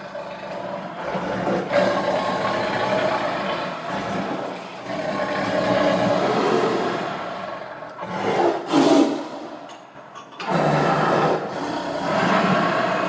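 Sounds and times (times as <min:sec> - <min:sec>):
tiger growling and roaring: 0:00.0 - 0:09.7, 0:10.4 - 0:13.0.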